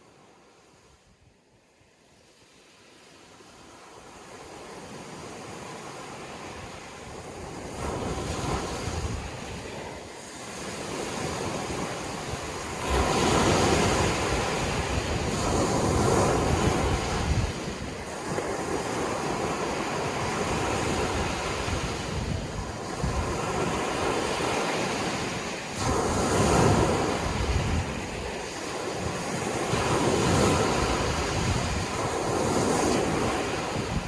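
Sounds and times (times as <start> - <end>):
sea waves breaking on shore: 0.0 - 34.0
wind buffeting microphone: 6.4 - 34.0.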